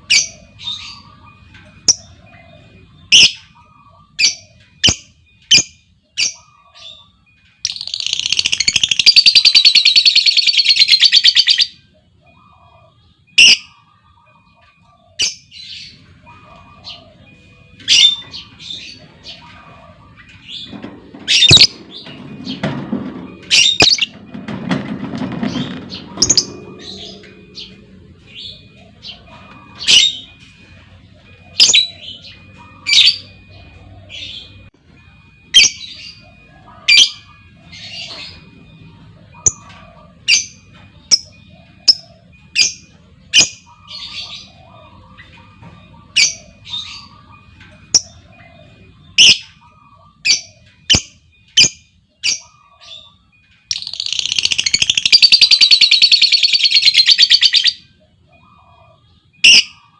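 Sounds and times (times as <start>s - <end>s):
lovebirds squawking chirps: 0.0s - 22.7s, 25.4s - 34.7s, 39.3s - 59.9s.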